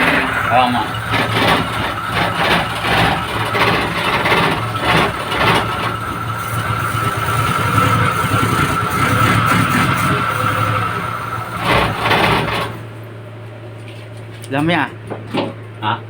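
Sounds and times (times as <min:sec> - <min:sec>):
steady high whine: 0:00.0 - 0:13.0
car engine idling: 0:00.0 - 0:13.4.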